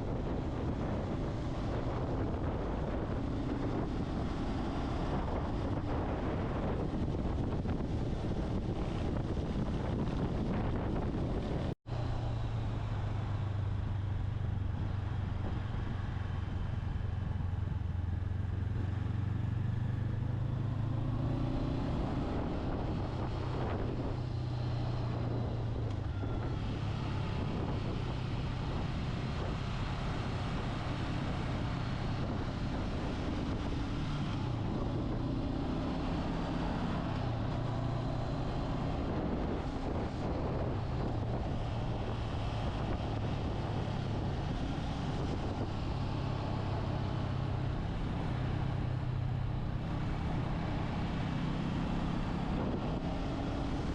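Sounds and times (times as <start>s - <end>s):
motorcycle engine hum: 0.0s - 53.9s
wind rush on microphone: 0.0s - 53.9s.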